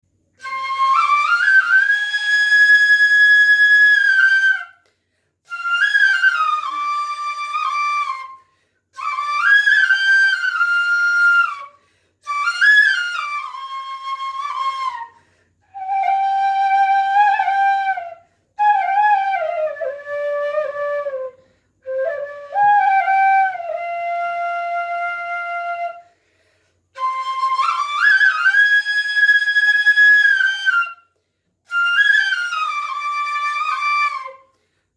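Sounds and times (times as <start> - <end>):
bamboo flute melody: 0.4 - 4.8, 5.5 - 26.1, 27.0 - 31.1, 31.7 - 34.5.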